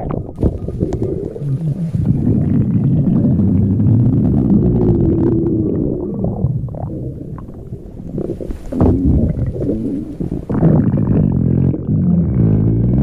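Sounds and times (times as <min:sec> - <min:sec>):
stomach growling and gurgling: 0:00.0 - 0:13.0.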